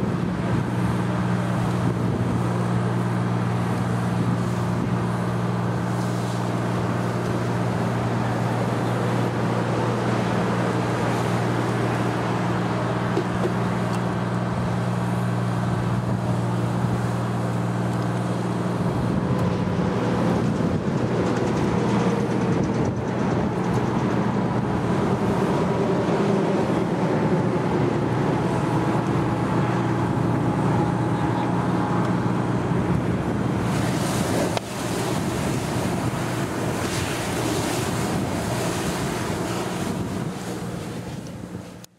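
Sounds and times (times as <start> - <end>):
fire engine engine droning: 0.0 - 41.9.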